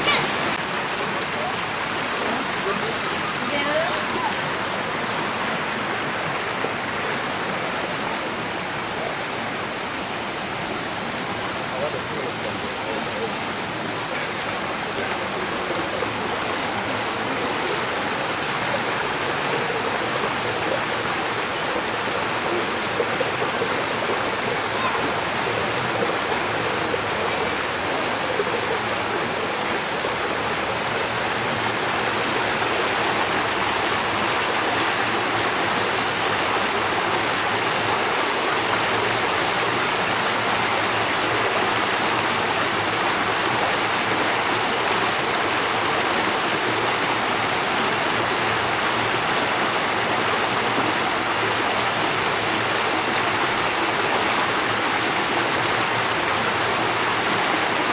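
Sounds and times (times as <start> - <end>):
stream water babbling: 0.0 - 57.9.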